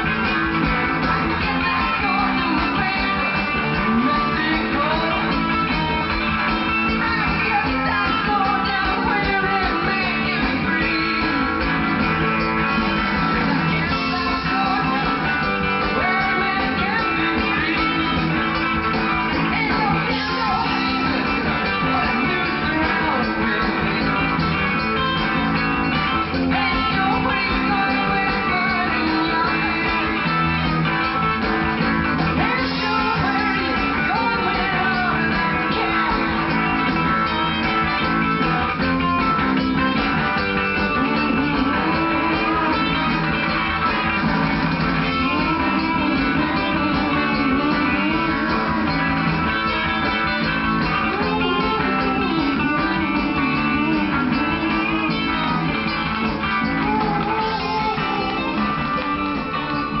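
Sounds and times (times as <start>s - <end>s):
folk-rock instrumental with guitar: 0.0s - 60.0s.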